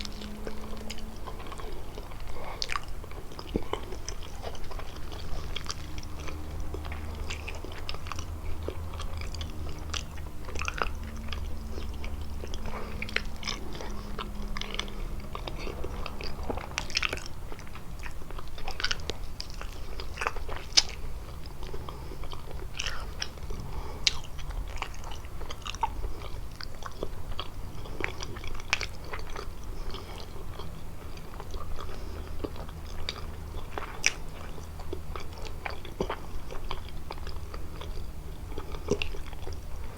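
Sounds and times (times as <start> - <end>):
chewing crunchy pastry: 0.0 - 39.9
low steady hum: 0.0 - 39.9.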